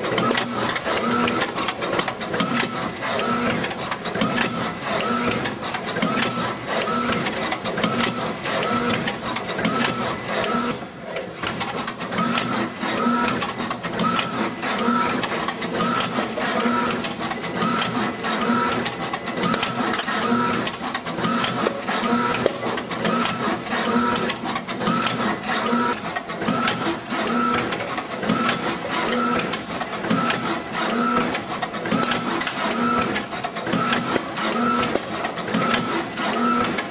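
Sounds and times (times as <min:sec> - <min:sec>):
machine clattering clicks: 0:00.0 - 0:36.9.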